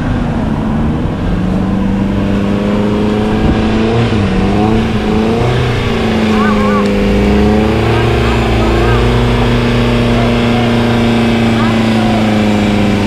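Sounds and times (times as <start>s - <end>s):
suv engine running under load: 0.0s - 13.0s.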